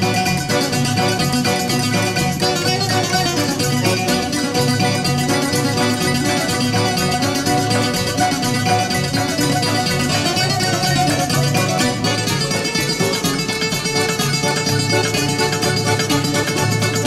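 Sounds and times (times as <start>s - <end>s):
plucked bouzouki: 0.0s - 17.0s
pulsing bass line: 0.0s - 17.0s.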